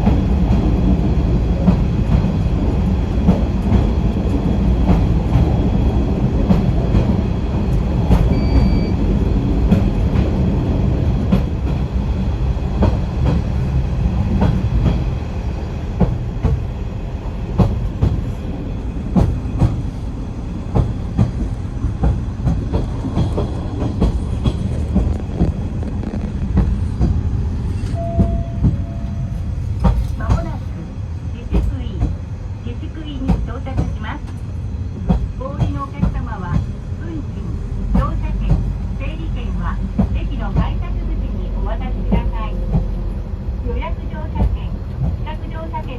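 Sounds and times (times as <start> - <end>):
rail vehicle low rumble: 0.0 - 45.9.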